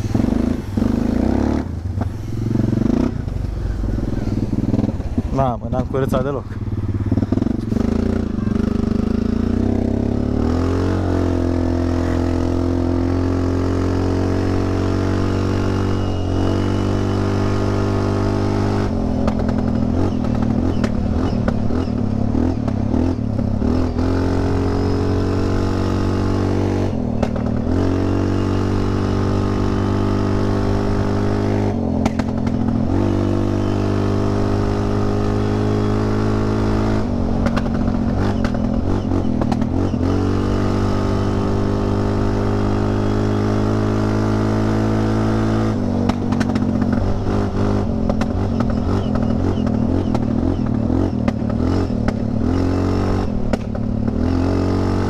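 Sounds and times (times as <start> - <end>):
loud single-cylinder engine: 0.0 - 55.0.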